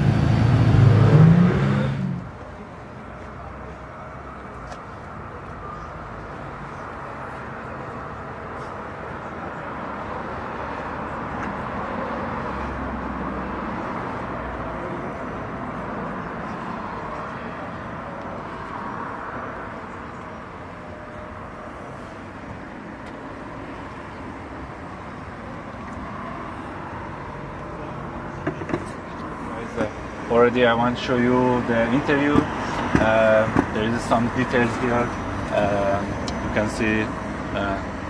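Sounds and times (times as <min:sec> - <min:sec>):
low vehicle rumble: 0:00.0 - 0:38.0.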